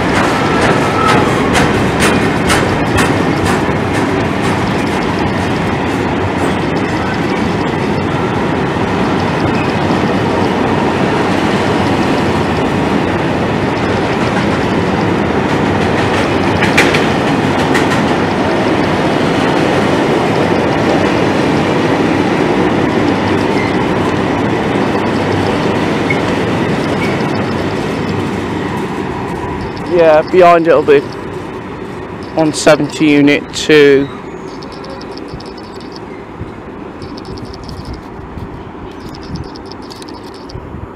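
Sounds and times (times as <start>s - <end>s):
wheels clicking over rail joints: 0.0s - 40.6s
freight train wagons rumbling: 0.0s - 40.9s.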